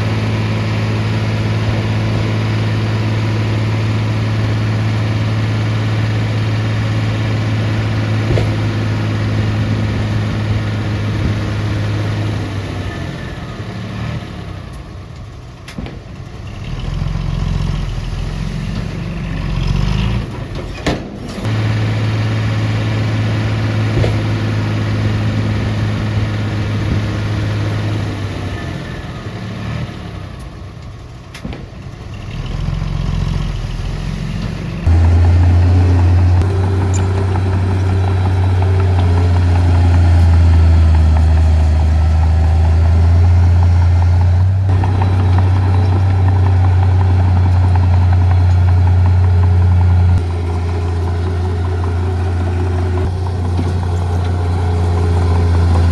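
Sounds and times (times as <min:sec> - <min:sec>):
heavy diesel engine drone: 0:00.0 - 0:20.5, 0:21.4 - 0:55.9.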